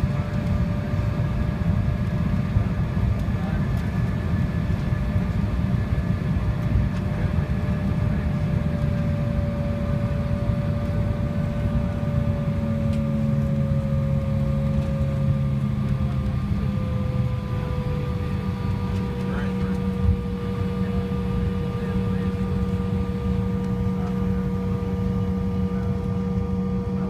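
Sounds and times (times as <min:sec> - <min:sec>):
jet engine rumble: 0:00.0 - 0:27.0
jet engine whine: 0:00.0 - 0:27.0
low hum: 0:00.0 - 0:27.0.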